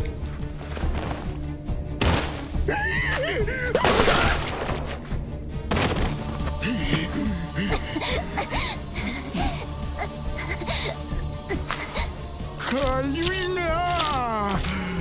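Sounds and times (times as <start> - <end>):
tense dark background music: 0.0 - 15.0.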